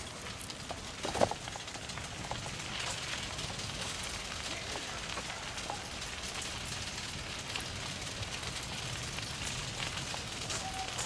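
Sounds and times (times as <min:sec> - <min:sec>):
bicycle rolling along path: 0:00.0 - 0:11.0
faint clicks and ticks: 0:00.0 - 0:11.0.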